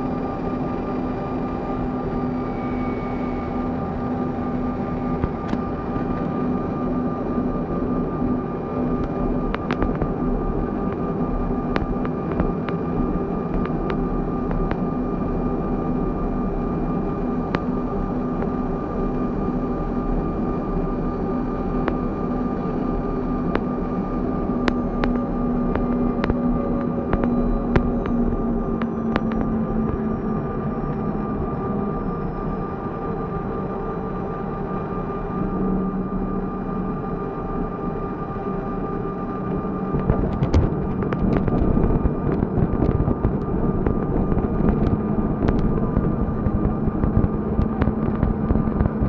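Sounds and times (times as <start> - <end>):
airliner cabin engine hum: 0.0 - 49.0.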